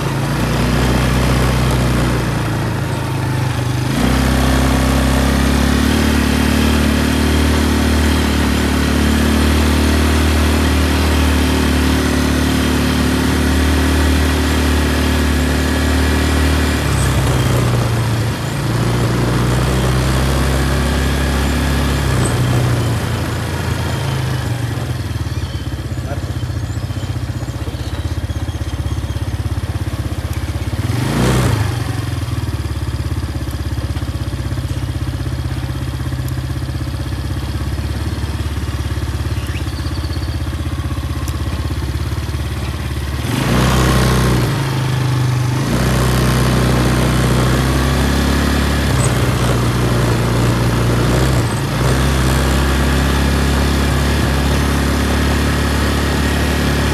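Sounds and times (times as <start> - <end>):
quad bike engine running: 0.0 - 56.9
road noise: 0.0 - 56.9.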